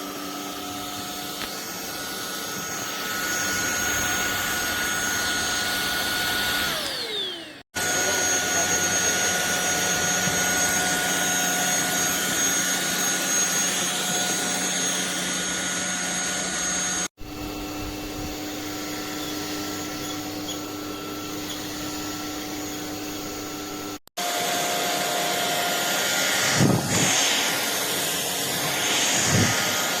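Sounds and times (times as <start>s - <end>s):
stick vacuum motor humming: 0.0s - 30.0s.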